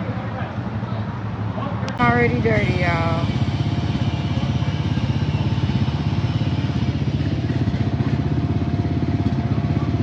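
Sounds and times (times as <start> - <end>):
engine putter: 1.8 - 10.0.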